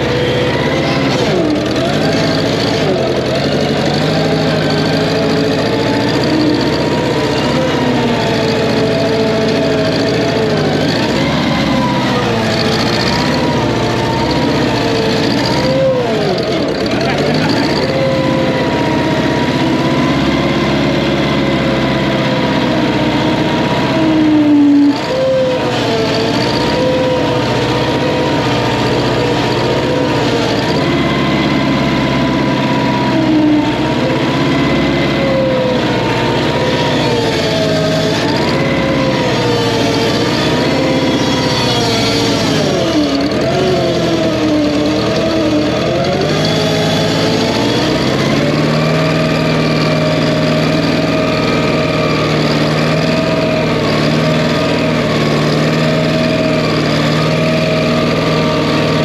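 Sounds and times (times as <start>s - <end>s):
engine running with wavering speed: 0.0s - 59.0s.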